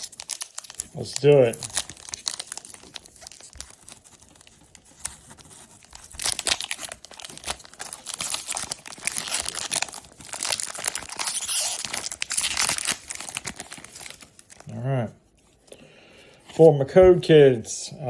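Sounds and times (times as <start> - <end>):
foil wrapper tearing and crinkling: 0.0 - 14.7.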